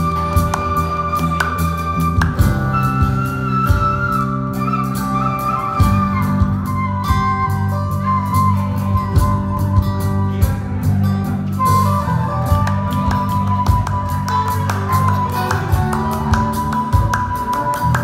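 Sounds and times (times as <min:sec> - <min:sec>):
bamboo flute melody: 0:00.0 - 0:18.0
electric bass guitar: 0:00.0 - 0:18.0.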